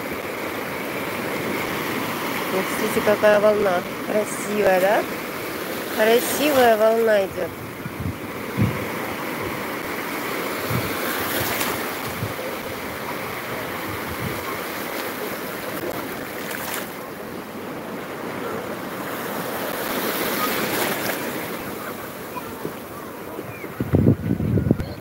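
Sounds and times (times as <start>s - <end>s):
small waves breaking in shallows: 0.0s - 23.9s.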